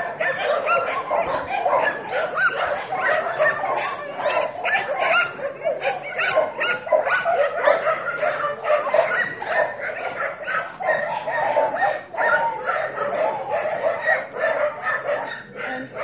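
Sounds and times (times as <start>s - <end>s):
dogs barking and yipping: 0.0s - 16.0s.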